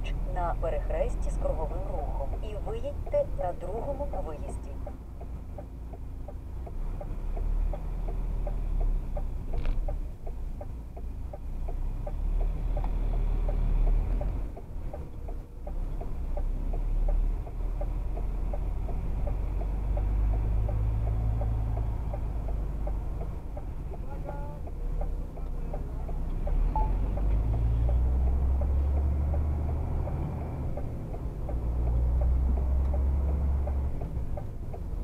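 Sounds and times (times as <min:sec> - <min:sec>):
vehicle engine rumbling: 0:00.0 - 0:35.0
steady ticking: 0:00.1 - 0:35.0.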